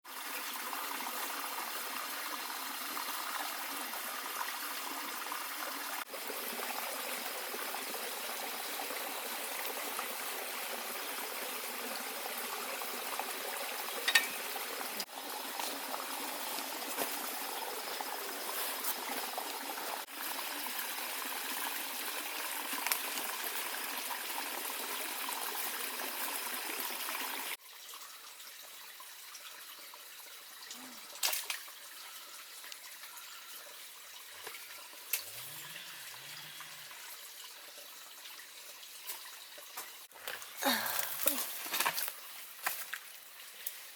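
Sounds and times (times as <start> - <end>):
stream water trickling: 0.1 - 43.9.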